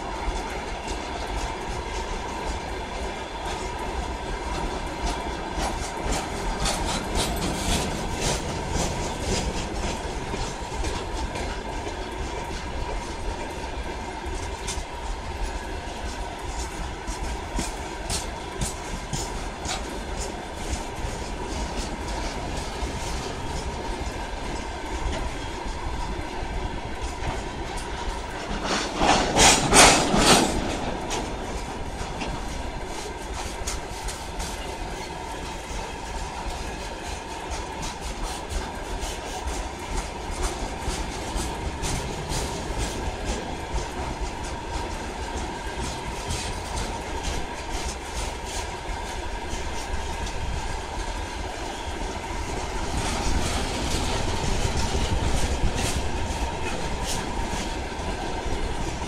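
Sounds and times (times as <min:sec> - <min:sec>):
freight train rumble and rattle: 0:00.0 - 0:59.0
wheels clicking over rail joints: 0:00.0 - 0:59.0.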